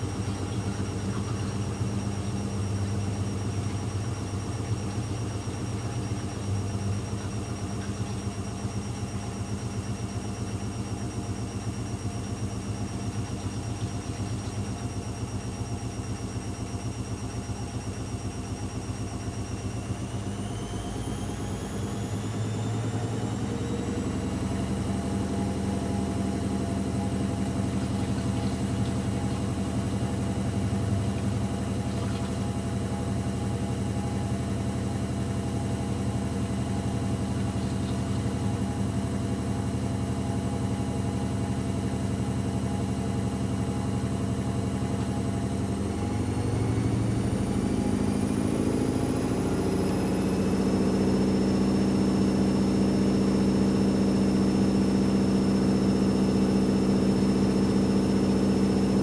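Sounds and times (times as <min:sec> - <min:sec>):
washing machine drum motor whining: 0:00.0 - 0:59.0.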